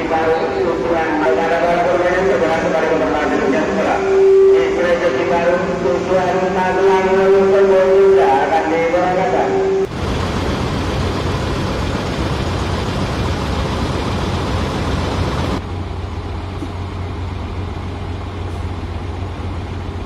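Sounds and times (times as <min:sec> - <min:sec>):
diesel engines idling: 0:00.0 - 0:20.0.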